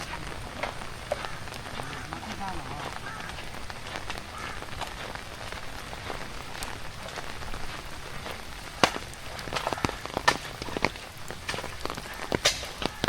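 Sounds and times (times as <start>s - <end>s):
heavy rain falling: 0.0s - 13.0s
water drips ticking: 0.0s - 13.0s.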